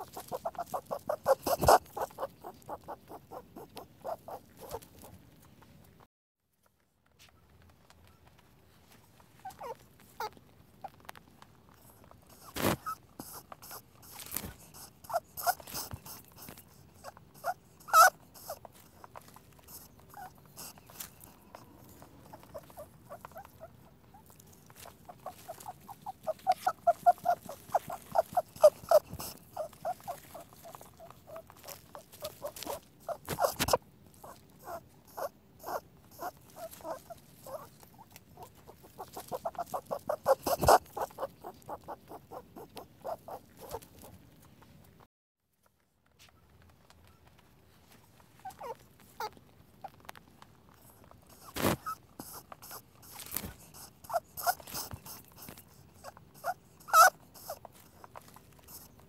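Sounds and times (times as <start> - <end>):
rabbit squeaks: 0.0 - 5.6, 9.3 - 11.1, 11.7 - 44.7, 48.3 - 50.1, 50.7 - 59.0.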